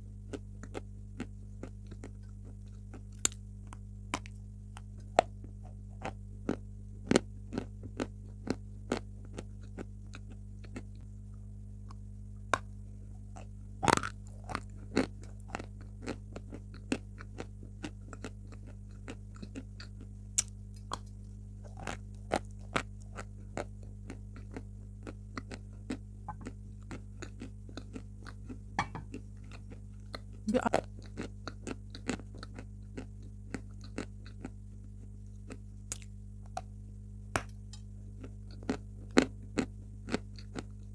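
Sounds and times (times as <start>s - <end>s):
steady low hum: 0.0s - 40.9s
chalk crunching while chewed: 0.3s - 11.0s, 12.6s - 36.7s, 37.7s - 40.9s.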